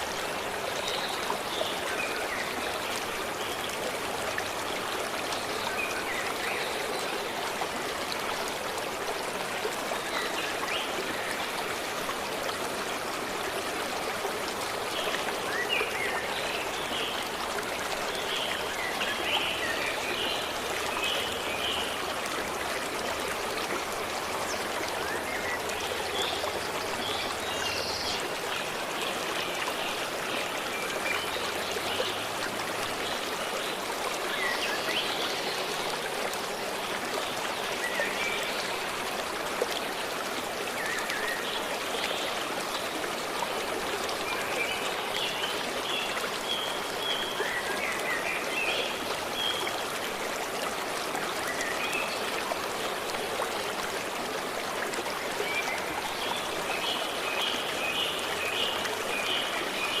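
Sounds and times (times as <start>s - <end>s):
stream flowing: 0.0s - 60.0s.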